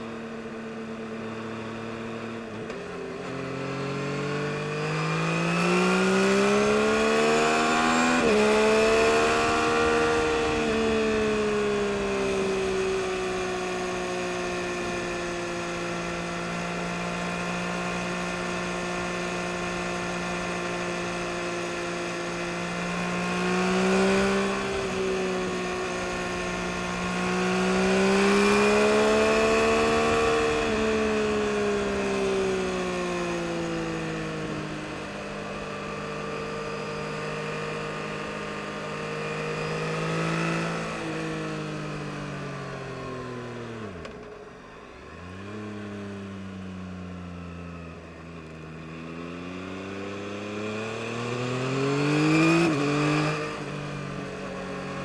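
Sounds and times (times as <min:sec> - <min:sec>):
motorcycle engine revving: 0:01.2 - 0:55.0.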